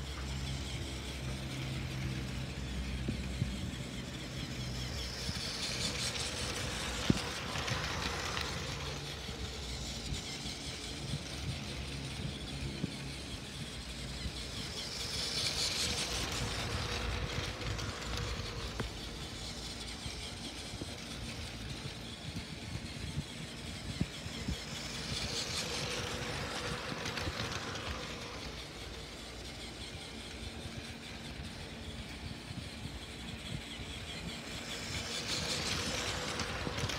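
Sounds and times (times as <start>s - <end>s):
toy train motor whining: 0.0s - 36.9s.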